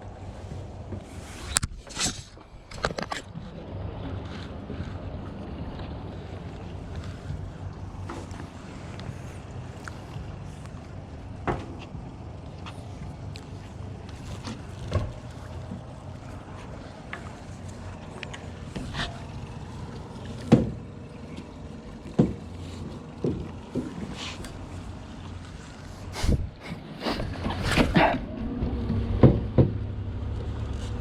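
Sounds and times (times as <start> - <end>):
boat engine hum: 0.0 - 31.0.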